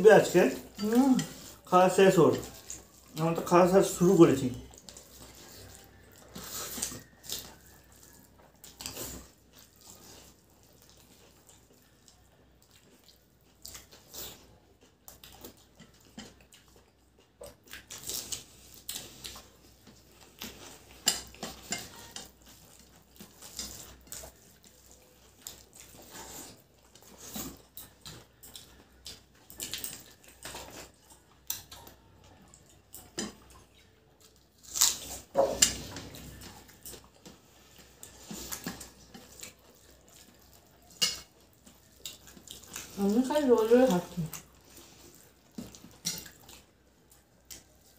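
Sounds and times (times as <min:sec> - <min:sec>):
chewing and lip-smacking: 0:02.3 - 0:47.9.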